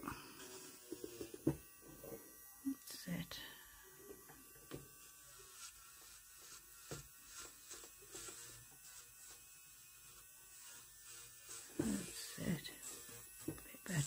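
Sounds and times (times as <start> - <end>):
electric nail drill humming: 0.0 - 14.0.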